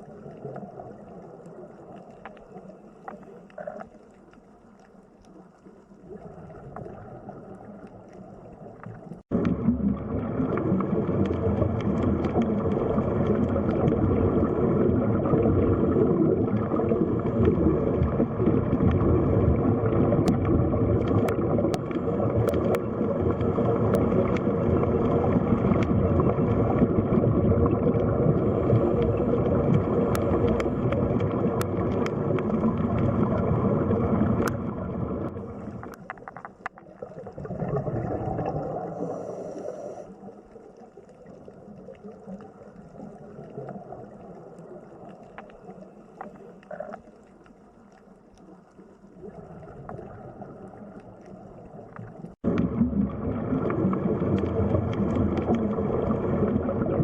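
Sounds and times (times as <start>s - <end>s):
underwater rushing water: 0.0s - 57.0s.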